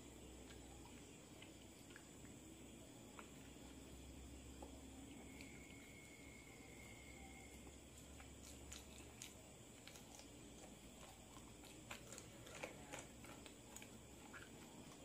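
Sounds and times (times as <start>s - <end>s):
mouth chewing with wet clicks: 0.3s - 2.4s, 4.6s - 15.0s.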